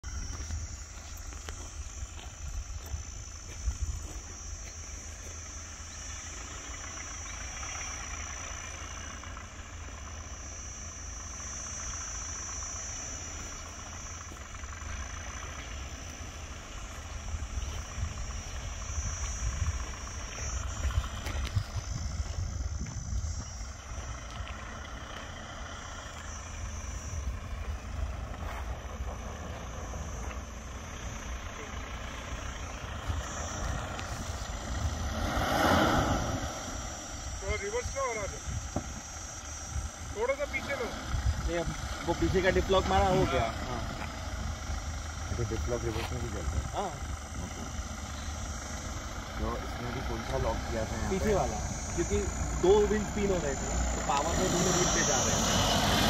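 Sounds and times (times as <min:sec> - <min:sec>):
diesel engine low rumble: 0:00.0 - 0:56.0
insects chirring: 0:00.0 - 0:56.0.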